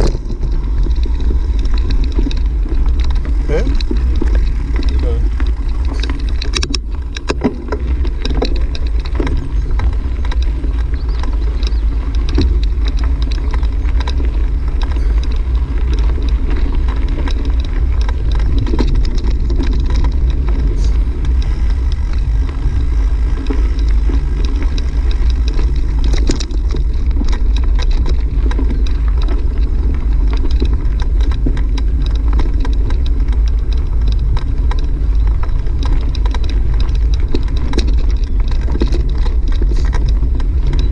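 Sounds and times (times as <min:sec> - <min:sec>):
low road rumble: 0:00.0 - 0:40.9
tyres crackling over stones: 0:00.0 - 0:40.9
wind buffeting microphone: 0:00.0 - 0:40.9.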